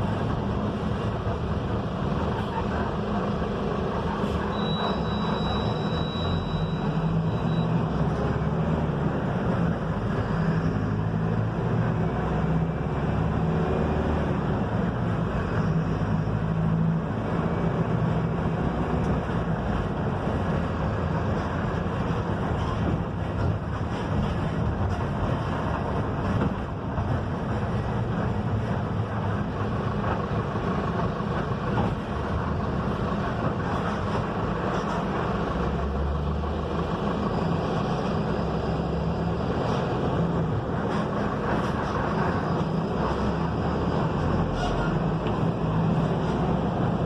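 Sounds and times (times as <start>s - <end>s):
bus diesel engine running: 0.0s - 47.0s
road and body rumble: 0.0s - 47.0s.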